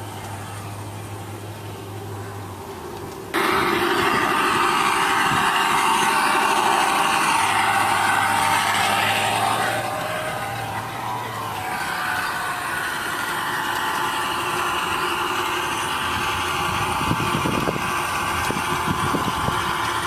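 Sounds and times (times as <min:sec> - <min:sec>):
model locomotive running noise: 0:00.0 - 0:20.0.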